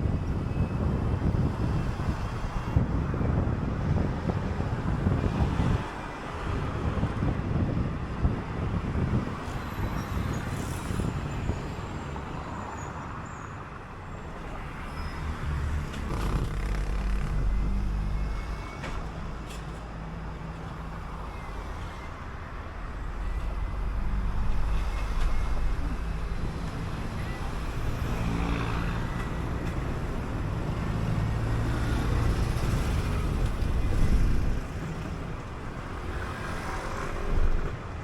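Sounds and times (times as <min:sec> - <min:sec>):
bus engine low drone: 0:00.0 - 0:38.0
road and wind noise: 0:00.0 - 0:38.0.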